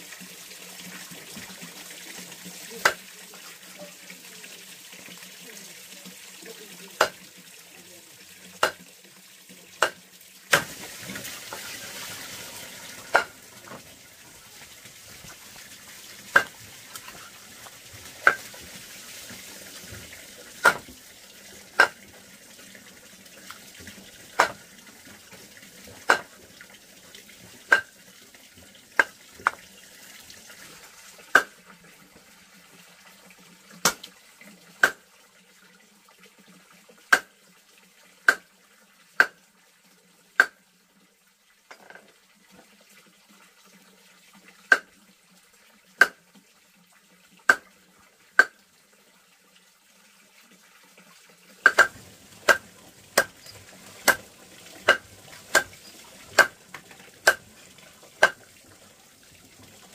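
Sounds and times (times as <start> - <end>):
faint running water: 0.0 - 59.9.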